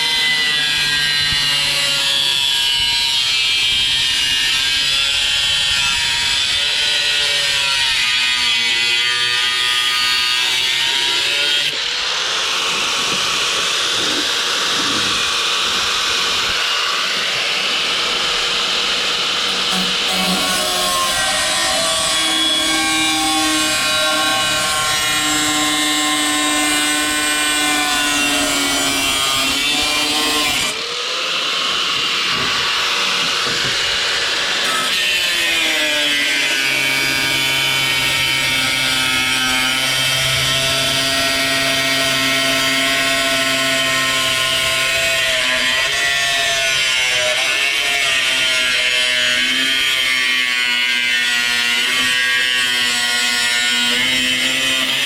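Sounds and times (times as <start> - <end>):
cutoff tool cutting sheet steel: 0.2 - 55.0.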